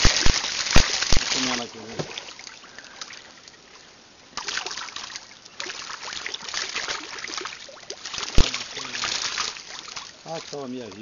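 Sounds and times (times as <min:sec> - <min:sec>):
fish splashing at surface: 0:00.0 - 0:03.3, 0:04.4 - 0:10.7.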